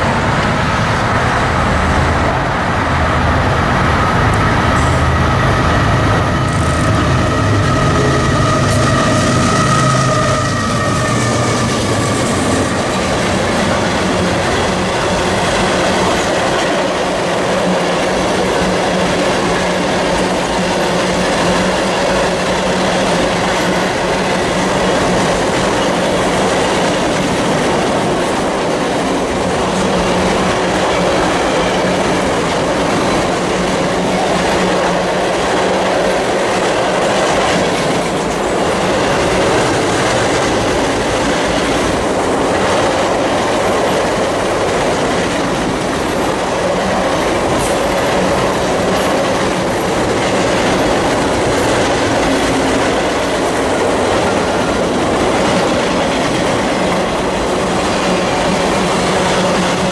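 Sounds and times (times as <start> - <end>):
train wheels clickety-clack: 3.9 - 59.9.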